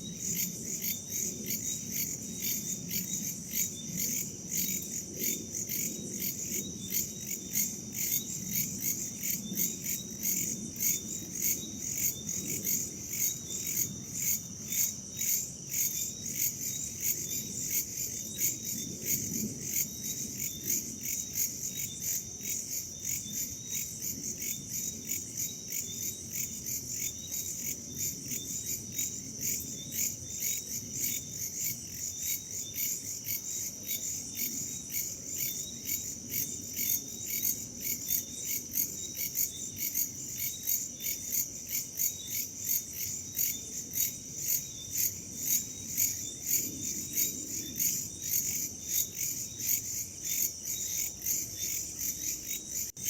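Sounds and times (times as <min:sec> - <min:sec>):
crickets and insects chirping: 0:00.0 - 0:53.0.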